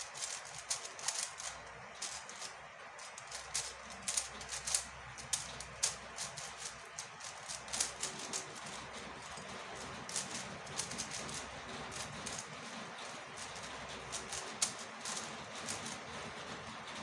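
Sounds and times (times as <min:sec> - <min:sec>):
speed cube clicking: 0:00.0 - 0:17.0.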